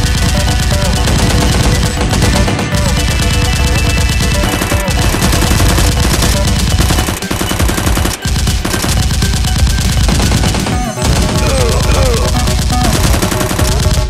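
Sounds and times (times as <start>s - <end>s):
automatic gunfire: 0.0s - 14.0s.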